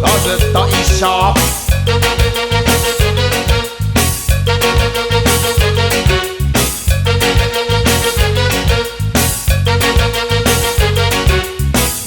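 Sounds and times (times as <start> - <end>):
pop music with beat and keyboard: 0.0 - 12.0.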